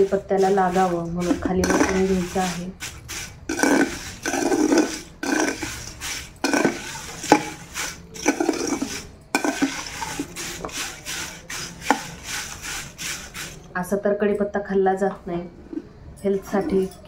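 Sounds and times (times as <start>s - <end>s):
spoon stirring in metal bowl: 0.0s - 13.7s.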